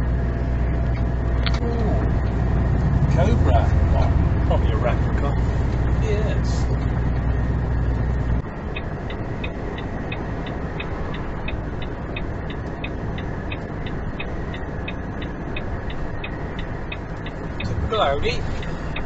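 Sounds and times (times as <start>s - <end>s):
heavy low rumble: 0.0s - 19.0s
vehicle engine and road noise: 0.0s - 19.0s
regular ticking: 1.3s - 19.0s.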